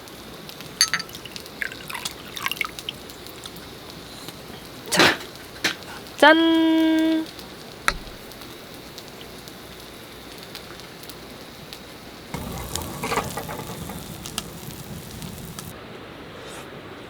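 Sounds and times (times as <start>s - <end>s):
food sizzling in a pan: 0.0s - 15.7s.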